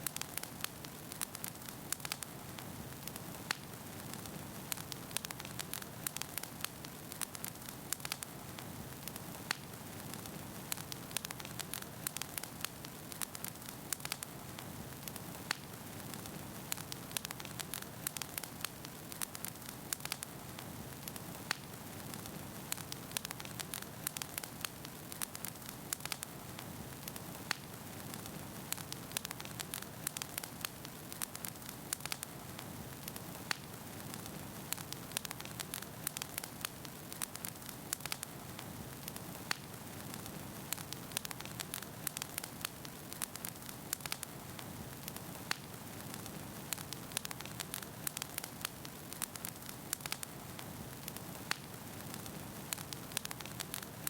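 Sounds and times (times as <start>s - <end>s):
fire crackling and popping: 0.0s - 54.0s
wood fire hissing: 0.0s - 54.0s.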